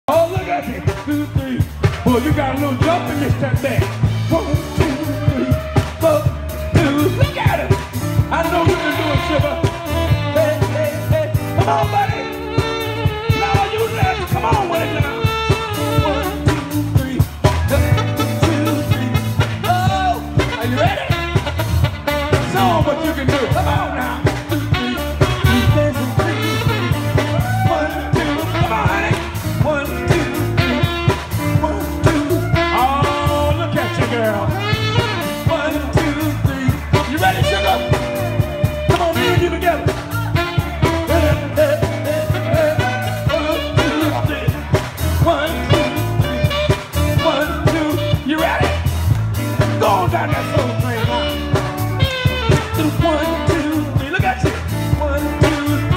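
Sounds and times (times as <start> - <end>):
live soul band playing: 0.0 - 55.9
man singing lead: 0.0 - 55.9.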